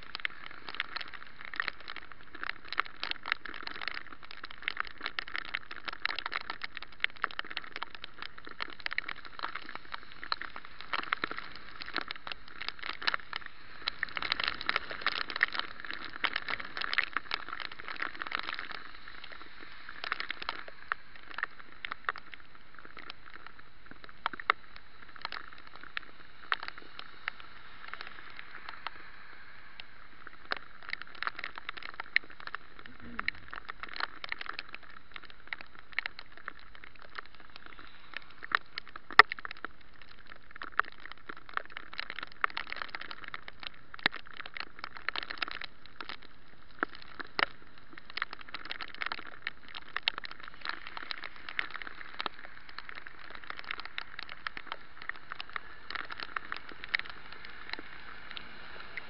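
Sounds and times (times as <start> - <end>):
bicycle tyres hissing on wet road: 0.0 - 59.0
raindrops ticking on camera: 0.0 - 59.0.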